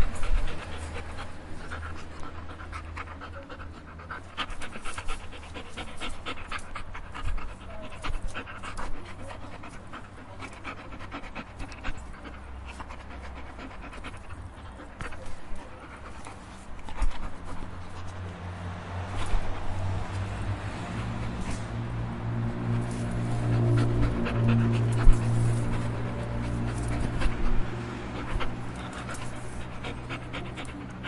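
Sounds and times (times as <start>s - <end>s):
dog panting: 0.0s - 31.0s.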